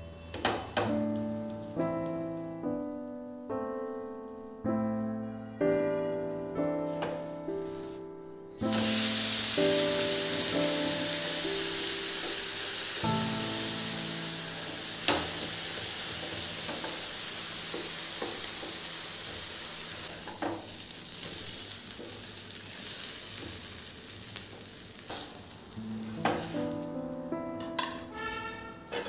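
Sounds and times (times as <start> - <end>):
food sizzling in oil: 0.8 - 3.2, 6.6 - 28.2.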